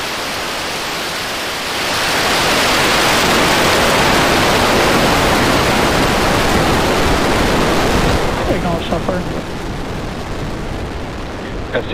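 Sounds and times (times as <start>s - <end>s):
rocket exhaust roar: 0.0s - 11.9s.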